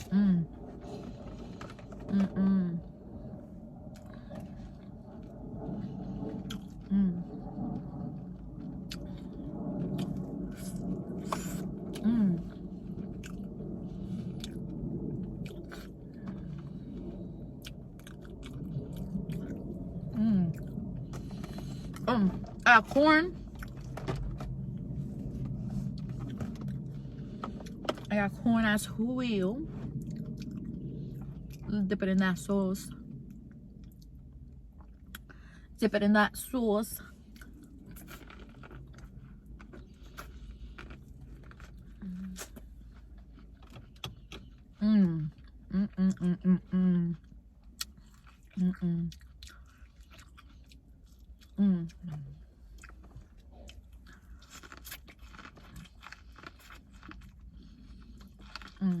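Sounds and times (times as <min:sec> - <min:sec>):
steady low hum: 0:00.0 - 0:59.0
close-up chewing: 0:02.8 - 0:28.1, 0:29.8 - 0:31.7, 0:37.2 - 0:46.3, 0:47.1 - 0:59.0.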